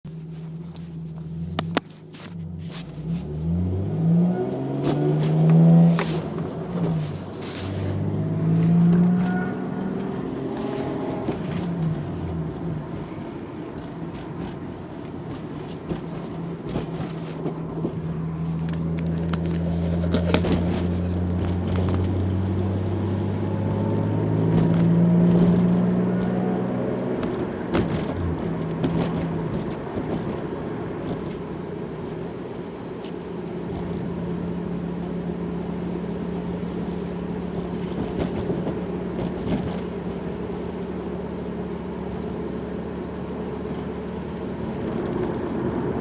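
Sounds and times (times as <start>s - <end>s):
car engine revving and idling: 0.1s - 46.0s
engine whine: 0.1s - 46.0s.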